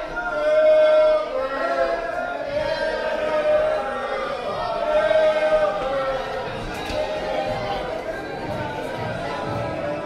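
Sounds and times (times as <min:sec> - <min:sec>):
chant-like singing: 0:00.0 - 0:10.0.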